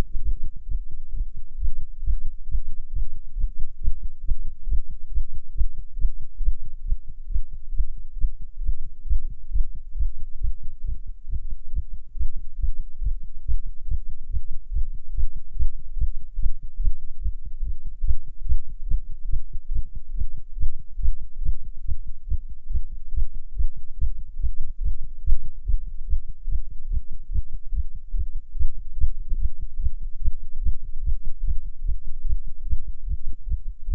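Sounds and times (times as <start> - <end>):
human heartbeat thuds: 0.0 - 33.9.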